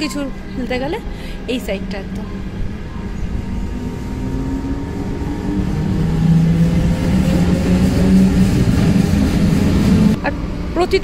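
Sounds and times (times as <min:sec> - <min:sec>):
low train rumble: 0:00.0 - 0:11.0
electric train motor hum: 0:00.3 - 0:11.0.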